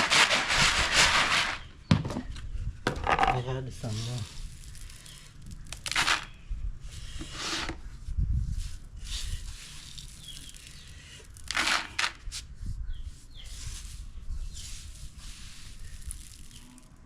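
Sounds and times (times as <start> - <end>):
grain rustling and shifting: 0.0 - 1.7, 3.3 - 12.5, 13.2 - 17.0.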